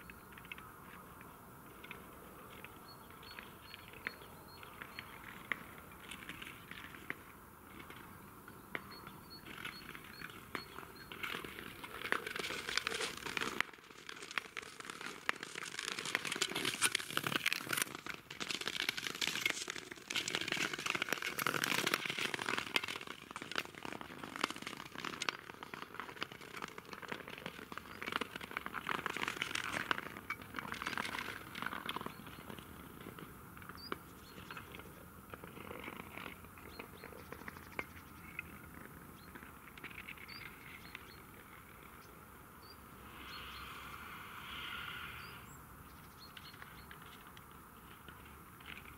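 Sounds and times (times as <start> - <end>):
ice crackling: 0.0 - 48.9
ice skates scraping on ice: 0.1 - 48.9.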